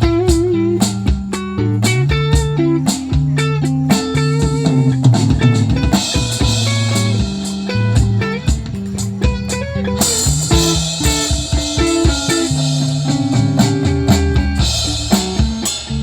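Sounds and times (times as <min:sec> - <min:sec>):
bass notes: 0:00.0 - 0:16.0
cymbals: 0:00.0 - 0:16.0
drum hits: 0:00.0 - 0:16.0
electric guitar: 0:00.0 - 0:16.0.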